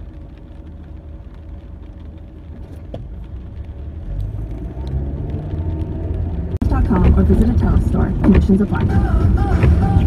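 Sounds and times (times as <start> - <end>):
car engine and cabin rumble: 0.0 - 10.0.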